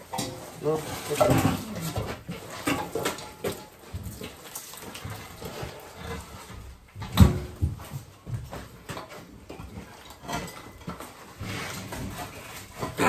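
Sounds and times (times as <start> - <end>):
metal knocking and scraping: 0.0 - 13.0.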